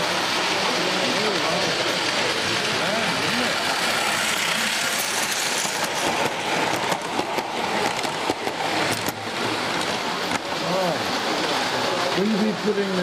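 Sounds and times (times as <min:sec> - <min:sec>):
metal wheels rattling on track: 0:00.0 - 0:13.0.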